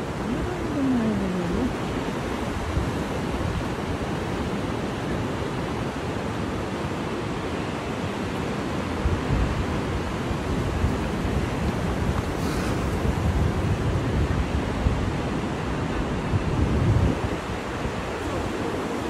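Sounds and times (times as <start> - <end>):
wind on microphone: 0.0 - 6.4, 8.7 - 19.0
sea surf rushing: 0.0 - 19.0.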